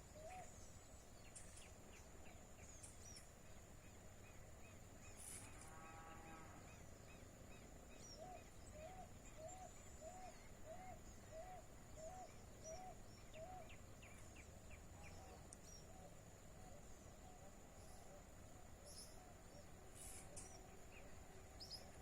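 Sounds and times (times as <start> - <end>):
faint bird calls: 0.0 - 22.0.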